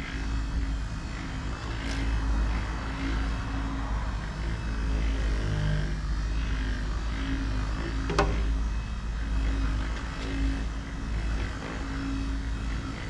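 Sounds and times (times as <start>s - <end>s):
orbital buffer droning on metal: 0.0s - 13.0s.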